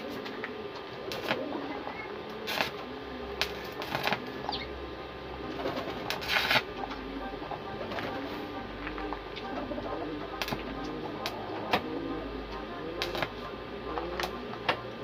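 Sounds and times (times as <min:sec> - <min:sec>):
pigeons cooing: 0:00.0 - 0:15.0
welding arc crackling: 0:01.0 - 0:01.6, 0:02.3 - 0:04.6, 0:05.4 - 0:14.7.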